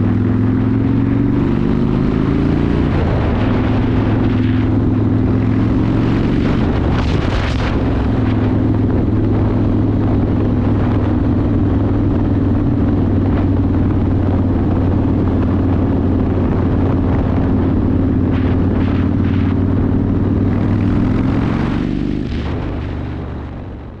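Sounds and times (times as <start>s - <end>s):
motorcycle engine cruising: 0.0s - 24.0s
wind noise: 0.0s - 24.0s.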